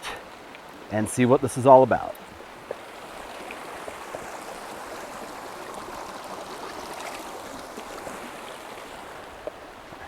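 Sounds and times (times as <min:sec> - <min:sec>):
stream water running: 0:00.0 - 0:10.0.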